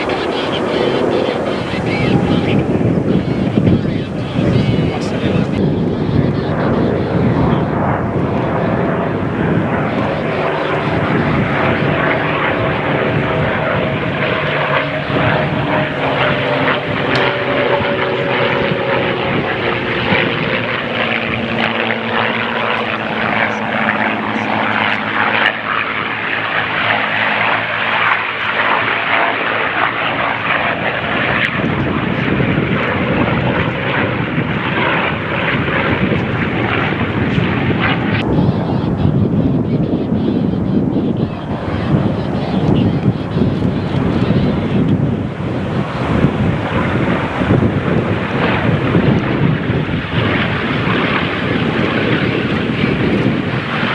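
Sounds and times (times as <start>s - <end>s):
propeller aircraft flying by: 0.0s - 53.9s.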